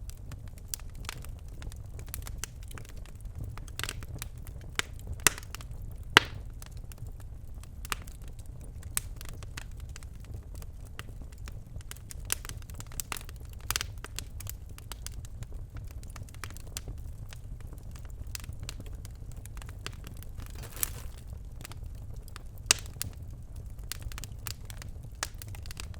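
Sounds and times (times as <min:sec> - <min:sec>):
fire crackling and popping: 0:00.0 - 0:25.9
low rumble of flames: 0:00.0 - 0:25.9.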